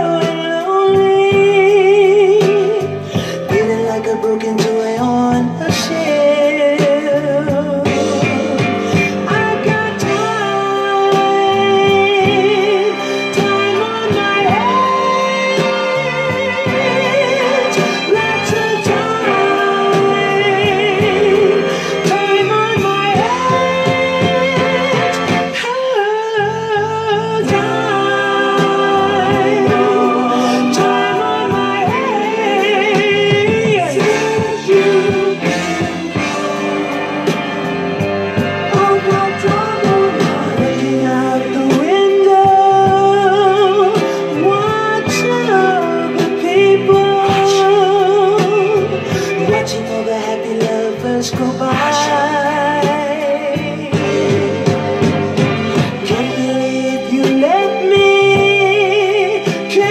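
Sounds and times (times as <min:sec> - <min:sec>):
steady drum beat: 0:00.0 - 0:25.7, 0:27.0 - 0:59.9
soul ballad melody: 0:00.0 - 0:59.9.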